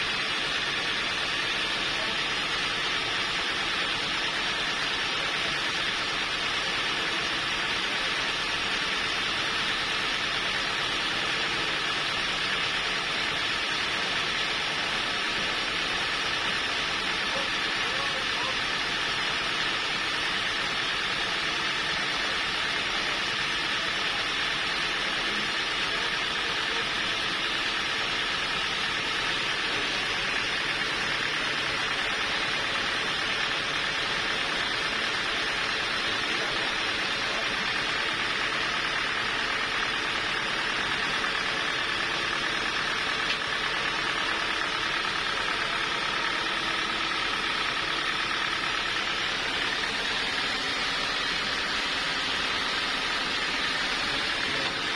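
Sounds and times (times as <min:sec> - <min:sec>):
sawmill saw machinery running: 0:00.0 - 0:54.9
steady high whine: 0:00.0 - 0:54.9.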